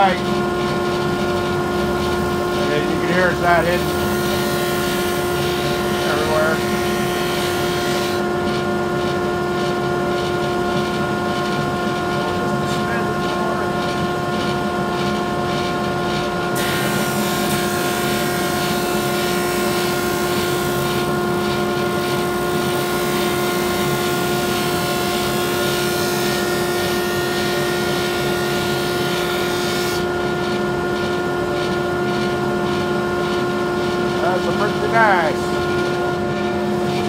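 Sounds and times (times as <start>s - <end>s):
drum sander humming: 0.0s - 37.0s
sanding drum grinding wood: 0.0s - 37.0s.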